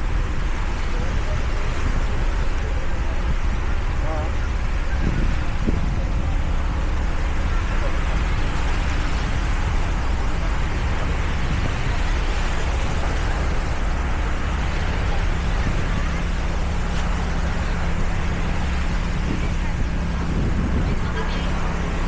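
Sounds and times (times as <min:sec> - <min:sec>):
vehicle running with road noise: 0:00.0 - 0:22.0.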